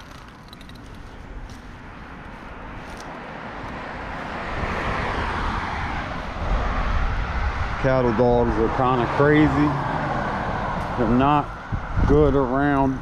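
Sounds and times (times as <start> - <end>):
passing vehicle rushing: 1.8 - 12.6.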